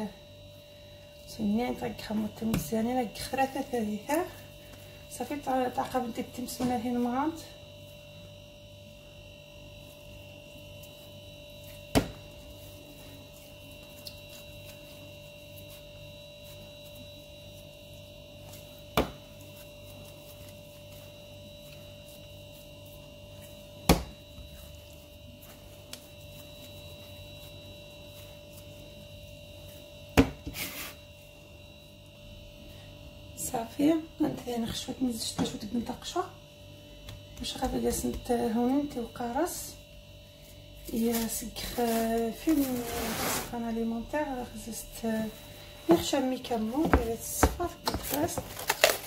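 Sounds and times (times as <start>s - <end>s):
electrical hum: 0.0s - 49.0s.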